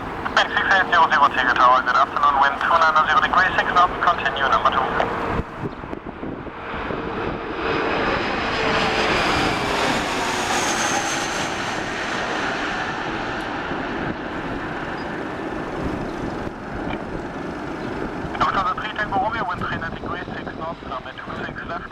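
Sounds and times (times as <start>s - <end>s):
airliner engine whine: 0.0s - 21.9s.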